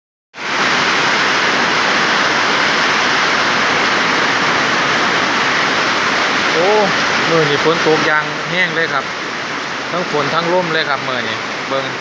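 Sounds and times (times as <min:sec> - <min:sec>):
heavy rain downpour: 0:00.4 - 0:12.0
wind: 0:00.4 - 0:12.0.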